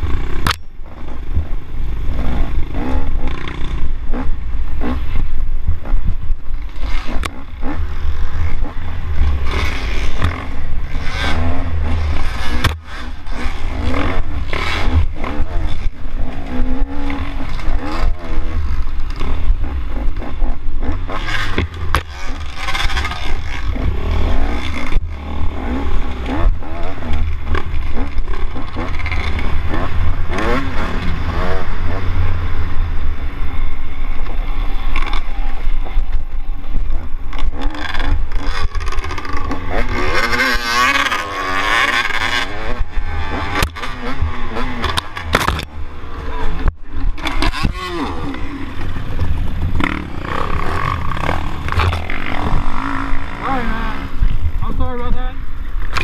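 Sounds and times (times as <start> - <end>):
dirt bike engine revving: 0.0 - 56.0
wind rumble on microphone: 0.0 - 56.0.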